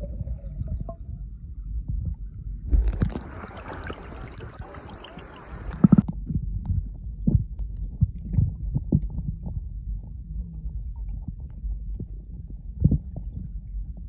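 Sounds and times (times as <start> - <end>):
underwater rumble: 0.0 - 14.0.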